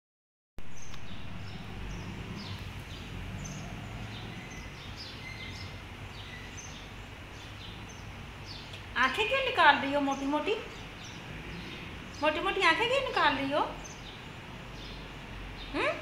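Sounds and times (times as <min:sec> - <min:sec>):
background hum and hiss: 0:00.6 - 0:16.0.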